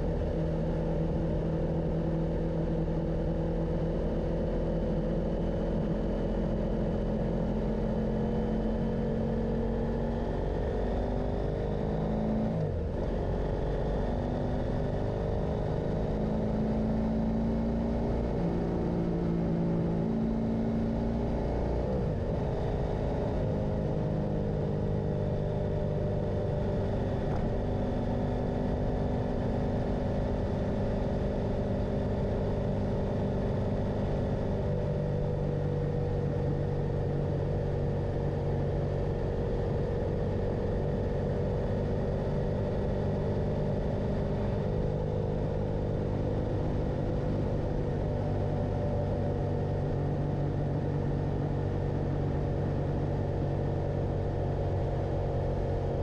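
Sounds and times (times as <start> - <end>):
wind and road rumble: 0.0 - 56.0
motorcycle engine running: 5.0 - 56.0.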